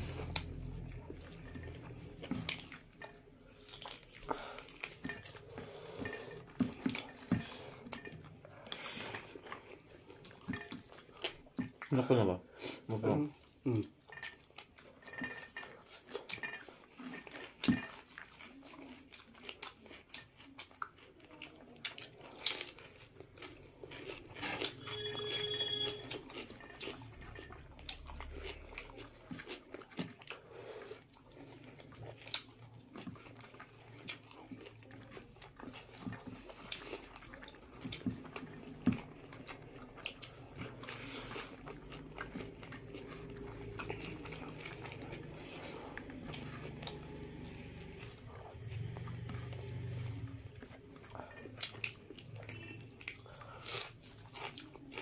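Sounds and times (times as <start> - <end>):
people chewing and smacking: 0.0 - 55.0.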